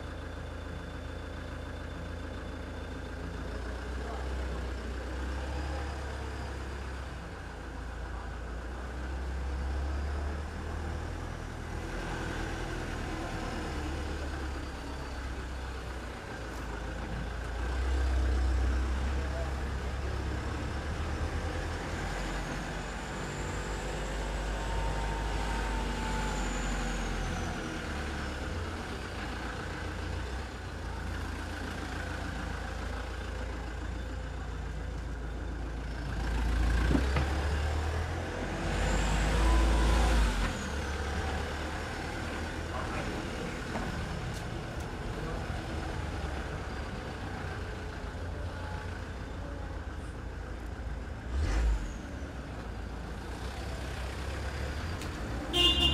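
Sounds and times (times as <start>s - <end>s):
low traffic rumble: 0.0s - 55.9s
vehicles passing by: 3.0s - 55.9s.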